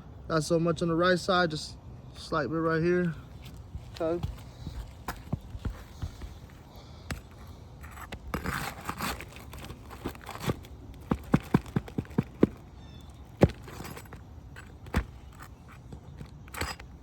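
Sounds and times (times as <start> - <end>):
tool scraping and tearing shingle: 3.3 - 17.0.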